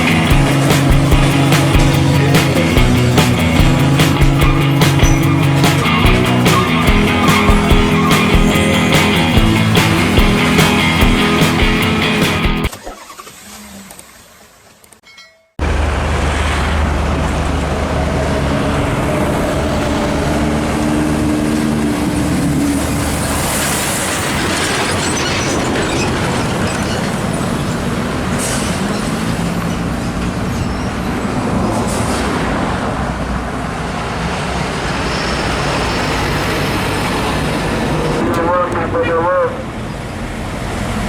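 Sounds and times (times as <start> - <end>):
diesel truck engines droning: 0.0 - 14.0, 15.6 - 41.0
tyre and road noise: 0.0 - 41.0.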